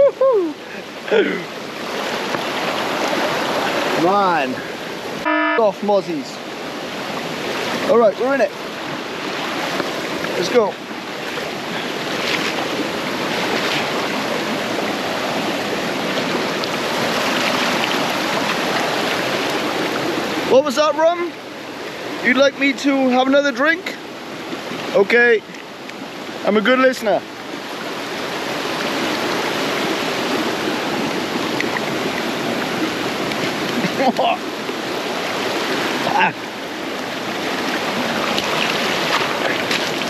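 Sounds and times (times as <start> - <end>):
stream water running: 0.0 - 40.0.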